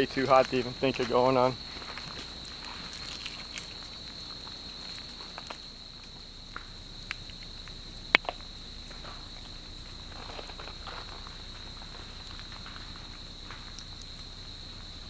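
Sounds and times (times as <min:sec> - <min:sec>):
vegetation crackling and popping: 0:00.0 - 0:15.0.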